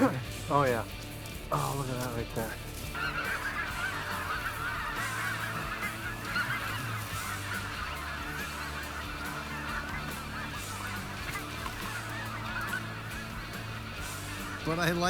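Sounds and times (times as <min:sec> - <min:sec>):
snow geese honking: 0:00.0 - 0:15.0.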